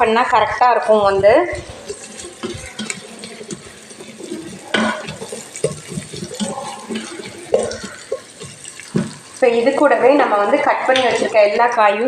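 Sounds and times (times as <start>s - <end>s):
spatula scraping a pot: 0.1s - 11.5s
onions sizzling in oil: 1.3s - 12.0s.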